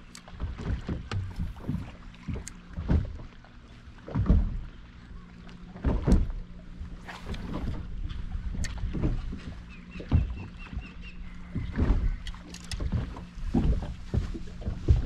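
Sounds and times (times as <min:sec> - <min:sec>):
water slapping against boat hull: 0:00.0 - 0:15.0.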